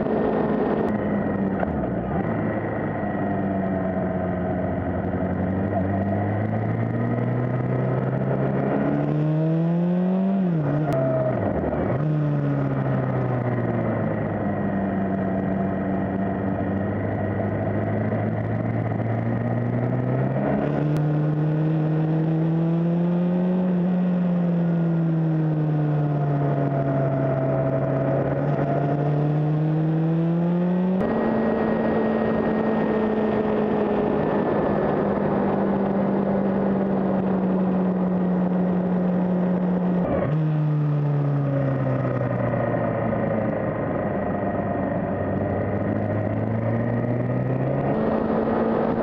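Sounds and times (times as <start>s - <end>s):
motorcycle engine revving: 0.0s - 49.0s
wind and road noise: 0.0s - 49.0s.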